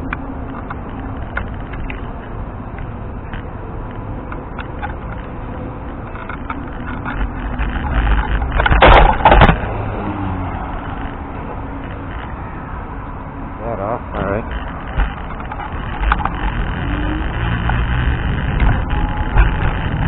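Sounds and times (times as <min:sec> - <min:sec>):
wind and road rumble: 0:00.0 - 0:20.0.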